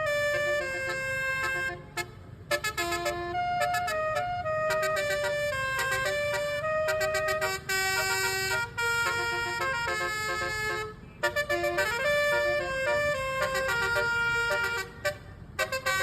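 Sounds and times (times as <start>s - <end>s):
bus musical horn melody: 0.0s - 16.0s.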